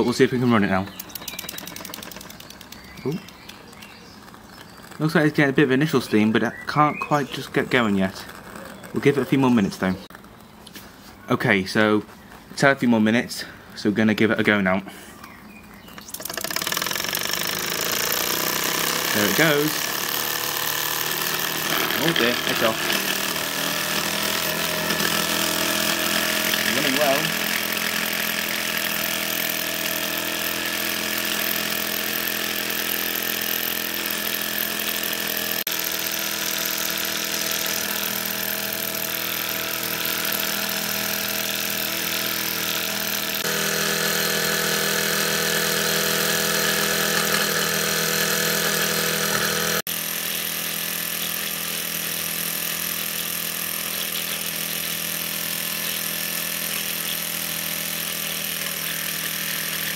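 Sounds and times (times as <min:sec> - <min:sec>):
toy steam engine running: 0:00.9 - 0:05.2, 0:16.0 - 0:59.9.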